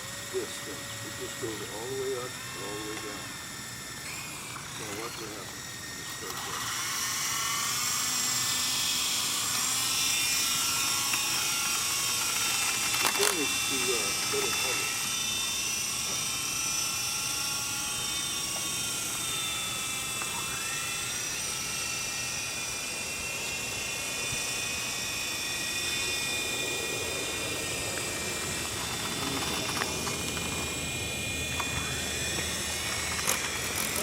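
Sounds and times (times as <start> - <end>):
toy helicopter motor whining: 0.0 - 34.0.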